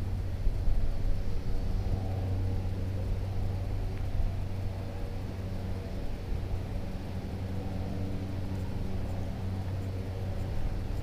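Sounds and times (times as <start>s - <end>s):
low unsteady rumble: 0.0s - 11.0s.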